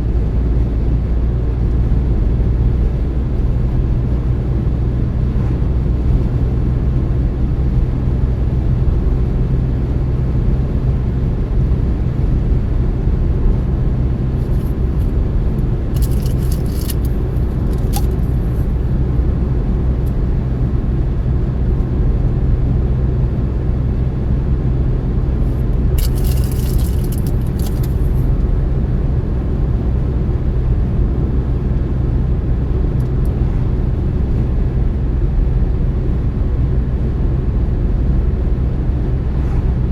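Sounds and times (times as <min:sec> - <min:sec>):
car engine and road drone: 0:00.0 - 0:39.9.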